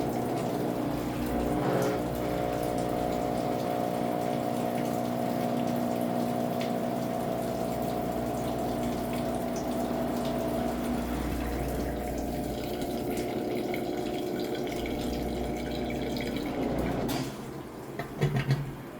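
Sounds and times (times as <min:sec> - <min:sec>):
washing machine drain pump humming: 0:00.0 - 0:18.9.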